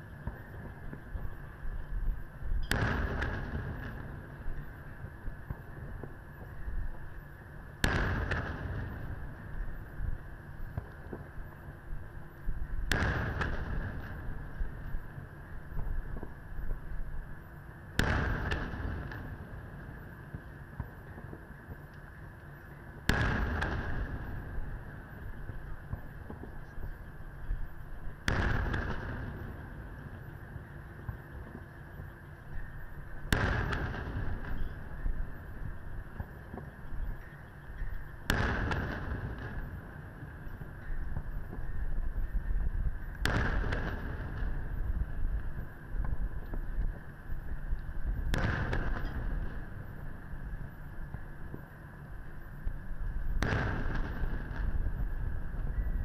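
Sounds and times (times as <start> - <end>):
firework shells booming: 0.1 - 11.7, 12.8 - 16.9, 17.9 - 22.2, 22.8 - 56.0.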